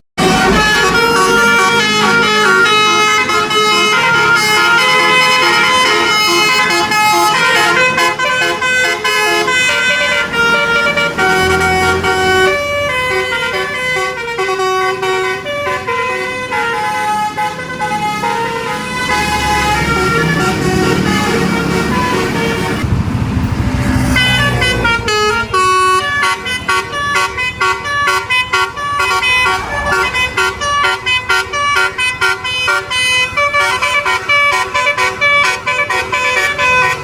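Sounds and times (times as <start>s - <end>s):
bus horn playing a melody: 0.2s - 23.0s, 23.8s - 37.0s.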